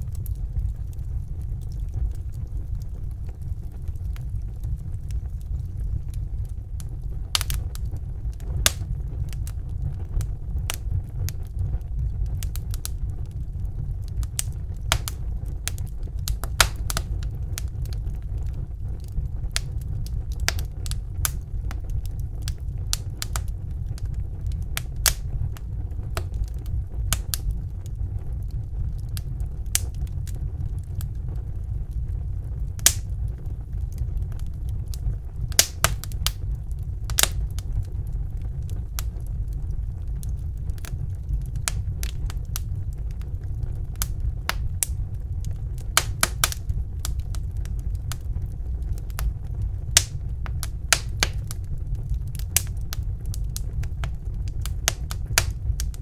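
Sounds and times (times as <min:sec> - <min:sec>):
fire pops: 0:00.0 - 0:56.0
low rumble: 0:00.0 - 0:56.0
wood fire crackling: 0:00.0 - 0:56.0.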